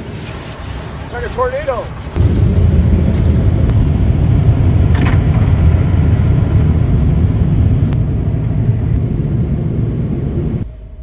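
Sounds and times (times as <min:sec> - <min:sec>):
car wash deep rumbling rush: 0:00.0 - 0:11.0.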